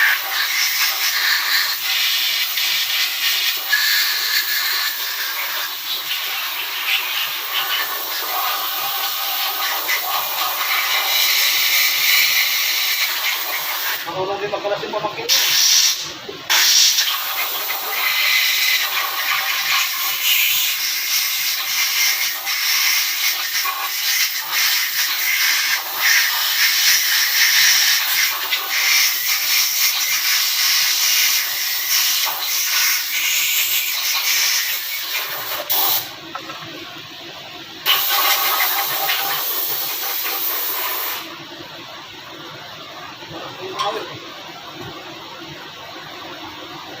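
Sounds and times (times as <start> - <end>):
loud steady hissing: 0.0 - 47.0.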